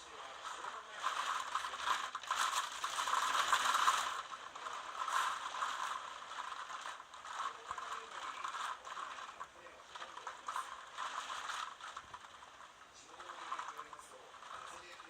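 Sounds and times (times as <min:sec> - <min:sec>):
fast rattling: 0:00.0 - 0:15.0.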